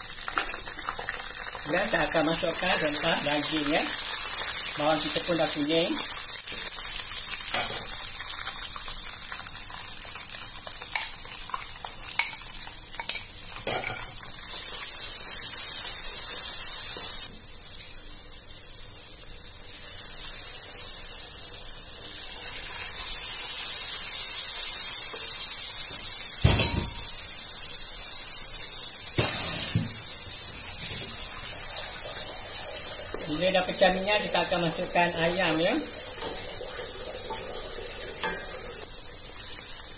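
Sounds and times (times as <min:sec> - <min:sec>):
paste sizzling in hot oil: 0:00.0 - 0:39.9.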